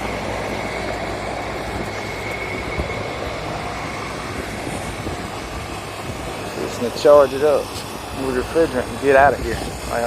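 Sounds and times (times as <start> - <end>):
faint high whine: 0.0 - 10.0
machinery drone: 0.0 - 10.0.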